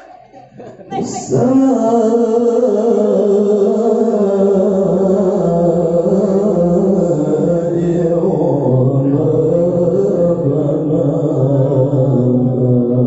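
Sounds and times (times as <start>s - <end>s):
man reciting melodically: 0.5s - 13.0s.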